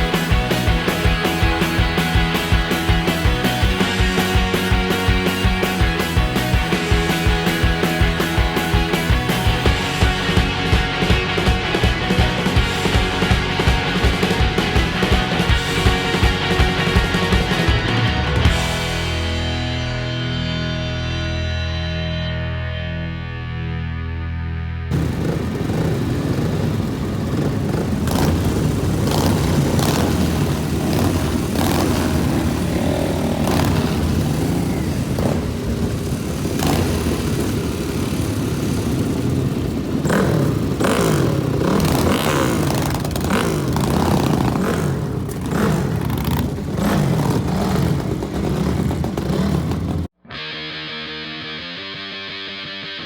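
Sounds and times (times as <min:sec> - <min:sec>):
motorcycle engines revving: 0:00.0 - 0:21.6, 0:24.9 - 0:50.2.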